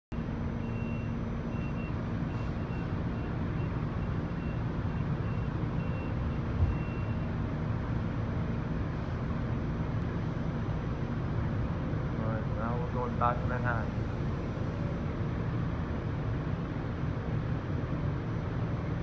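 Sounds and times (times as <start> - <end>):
subway car hum: 0.1 - 19.0.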